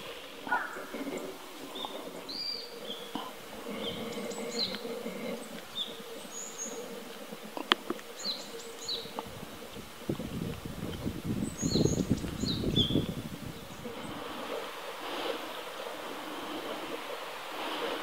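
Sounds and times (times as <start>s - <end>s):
faint steady hum: 0.0s - 18.0s
songbirds chirping: 0.0s - 18.0s.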